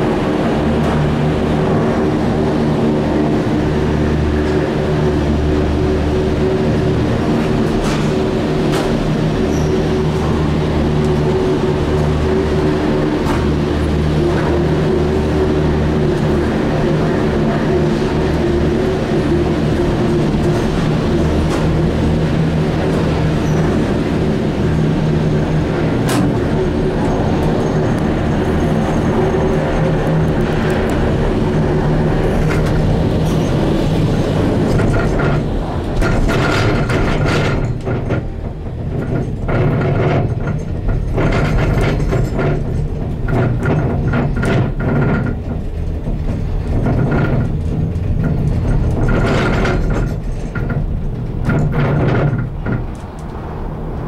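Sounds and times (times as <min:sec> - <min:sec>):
gondola cabin rumble: 0:00.0 - 0:54.0
clacks and knocks of running gear: 0:07.4 - 0:24.4, 0:25.3 - 0:53.4.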